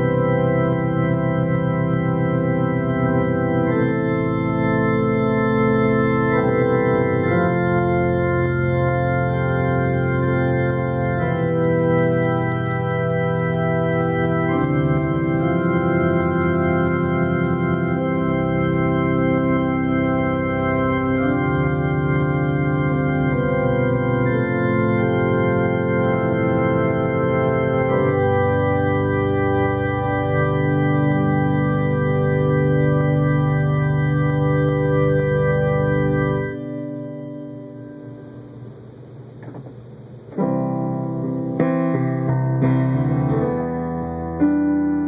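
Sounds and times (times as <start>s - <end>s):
organ chords: 0.0s - 45.0s.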